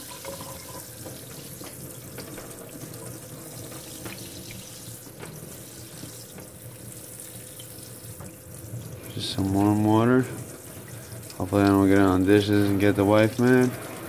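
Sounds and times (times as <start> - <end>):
sink sprayer hissing on metal: 0.0 - 14.0.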